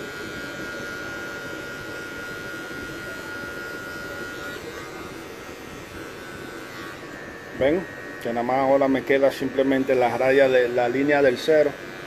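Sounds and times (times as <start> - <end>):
hair clipper buzzing: 0.0 - 12.0.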